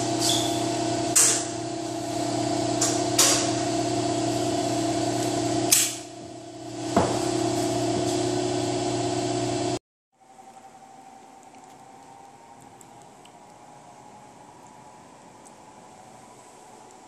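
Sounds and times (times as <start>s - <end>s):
machine humming and hissing: 0.0s - 17.0s.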